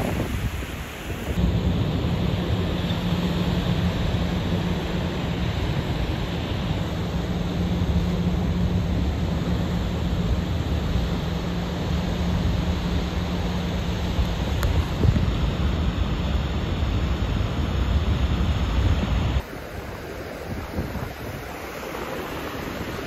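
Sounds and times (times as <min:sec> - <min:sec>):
surf washing up beach: 0:00.0 - 0:23.0
low hum: 0:01.2 - 0:20.4.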